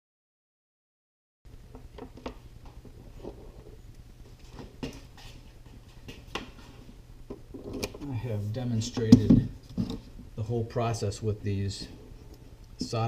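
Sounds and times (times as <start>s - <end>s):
faint low hum: 1.5s - 13.0s.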